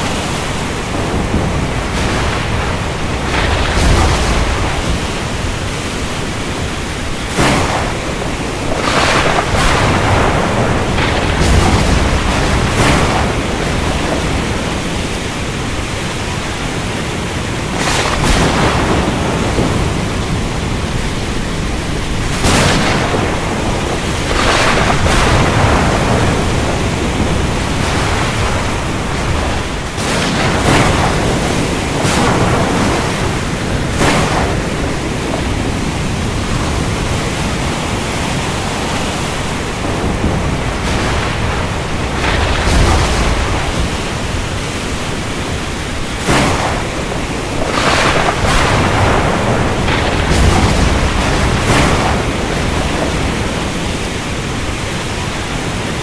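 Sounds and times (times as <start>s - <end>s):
low thunder rumble: 0.0s - 56.0s
rain and wind hissing: 0.0s - 56.0s
sharp thunder cracks: 0.0s - 56.0s.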